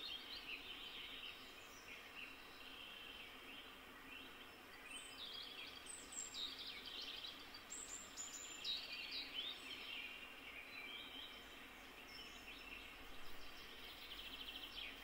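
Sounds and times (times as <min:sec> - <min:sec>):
songbird song: 0:00.0 - 0:15.0.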